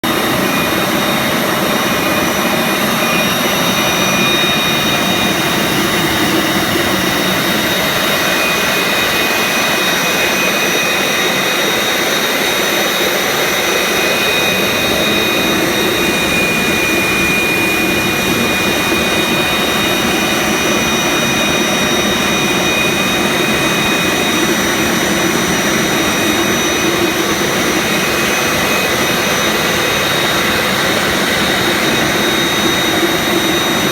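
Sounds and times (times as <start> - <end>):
forge burner roaring: 0.0 - 33.9
thin whining tones: 0.1 - 33.9.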